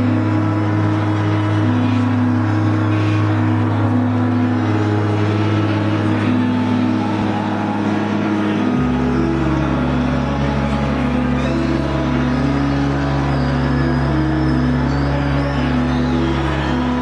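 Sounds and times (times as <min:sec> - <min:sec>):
atmospheric droning music: 0:00.0 - 0:17.0.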